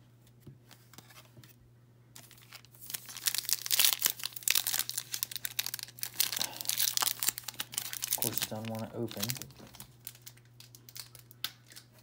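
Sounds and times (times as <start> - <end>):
foil wrapper crinkling: 2.2 - 12.0.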